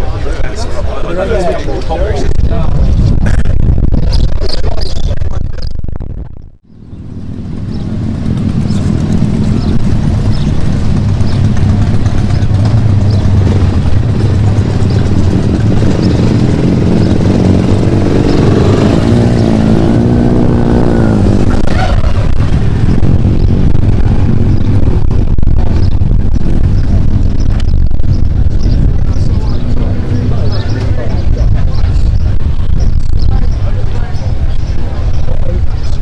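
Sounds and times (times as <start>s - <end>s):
motorcycle engine running: 5.2s - 36.0s.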